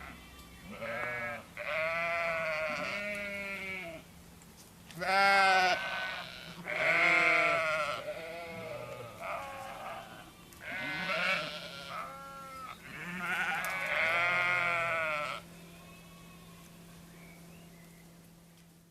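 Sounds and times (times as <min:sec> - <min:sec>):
sheep bleating: 0:00.0 - 0:04.0, 0:05.0 - 0:16.4.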